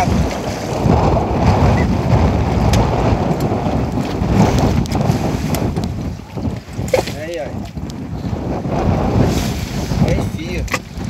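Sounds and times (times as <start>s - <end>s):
sea washing: 0.0s - 11.0s
wind buffeting microphone: 0.0s - 11.0s.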